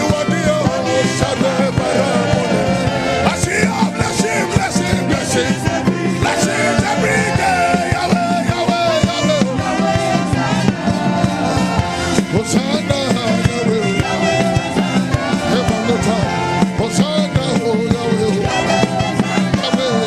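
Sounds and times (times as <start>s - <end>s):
driving drum beat: 0.0s - 20.0s
upbeat worship music: 0.0s - 20.0s.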